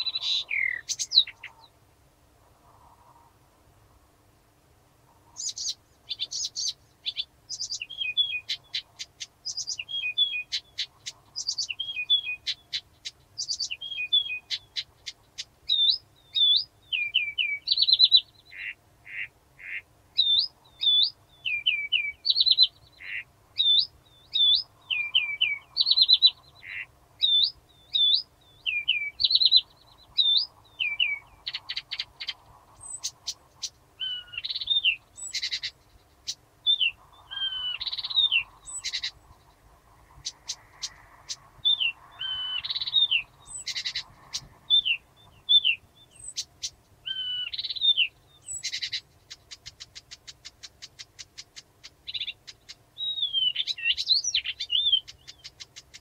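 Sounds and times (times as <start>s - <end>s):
warbler singing: 0.0s - 1.8s, 5.2s - 56.0s.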